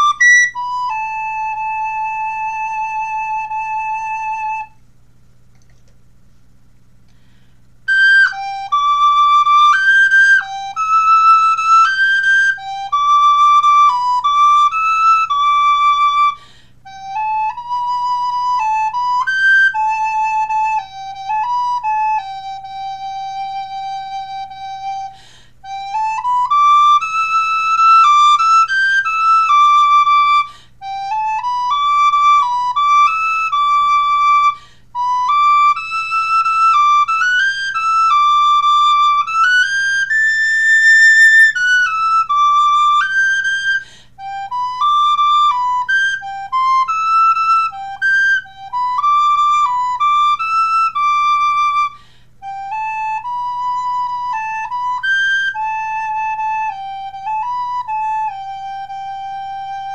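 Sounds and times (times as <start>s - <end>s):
recorder playing a melody: 0.0s - 4.8s, 7.1s - 59.9s.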